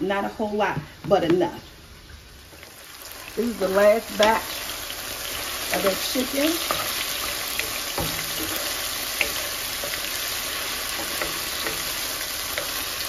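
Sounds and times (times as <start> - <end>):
chicken sizzling in oil: 1.8 - 13.0.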